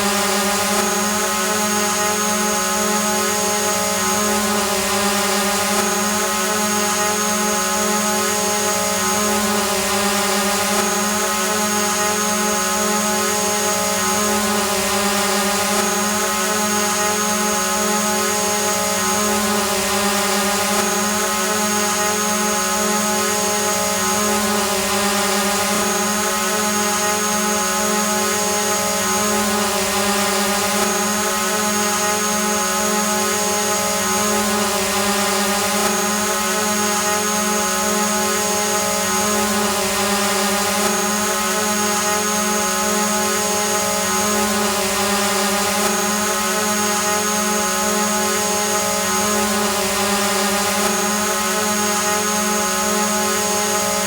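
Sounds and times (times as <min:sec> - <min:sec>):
drone motors buzzing hum: 0:00.0 - 0:54.0.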